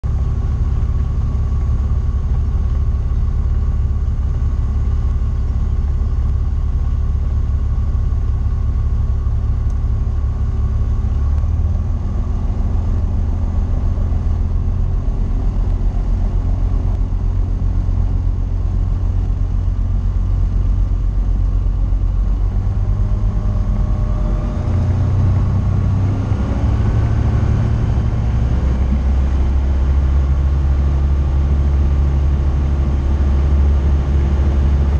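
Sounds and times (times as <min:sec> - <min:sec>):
aircraft engine and propeller: 0:00.0 - 0:34.9.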